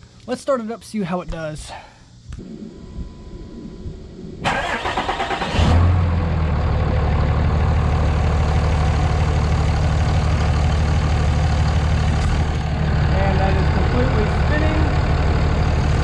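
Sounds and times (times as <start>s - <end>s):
diesel engine idling: 2.4s - 16.0s.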